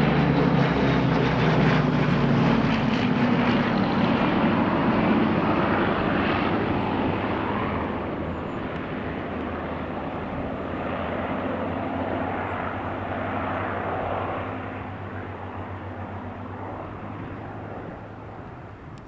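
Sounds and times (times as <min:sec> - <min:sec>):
propeller planes droning overhead: 0:00.0 - 0:19.0.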